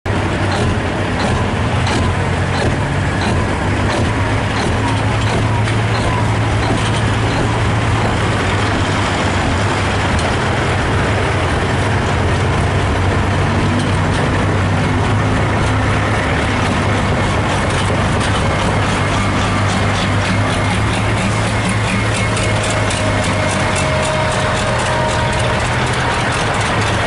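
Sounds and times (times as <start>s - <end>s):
diesel engine idling: 0.1s - 27.0s.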